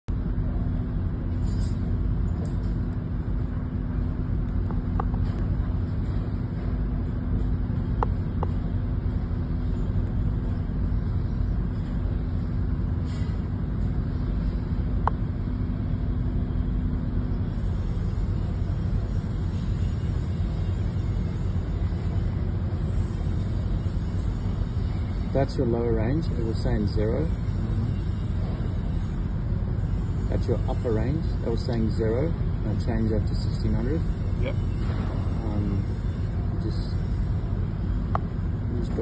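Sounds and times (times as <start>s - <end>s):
constant hum: 0.0s - 39.0s
low mechanical rumble: 0.0s - 39.0s.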